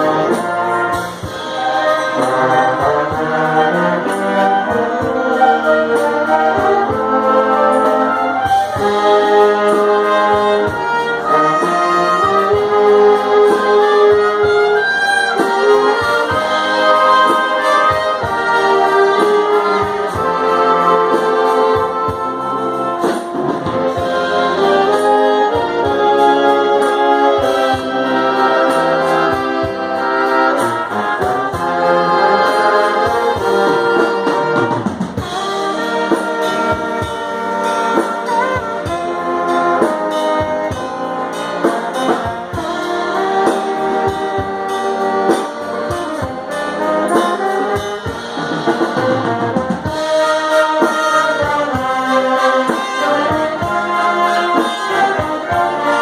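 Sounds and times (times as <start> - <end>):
brass instruments playing held notes: 0.0 - 56.0.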